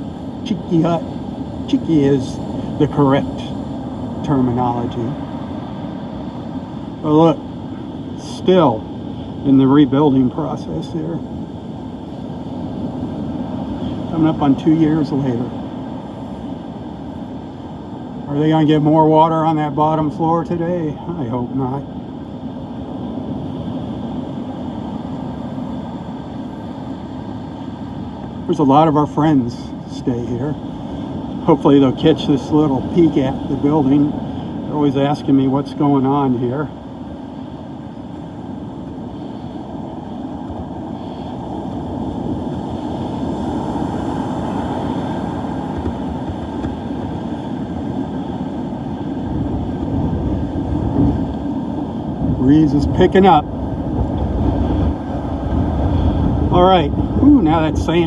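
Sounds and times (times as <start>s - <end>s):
surf on a beach: 0.0s - 58.0s
wind: 0.0s - 58.0s.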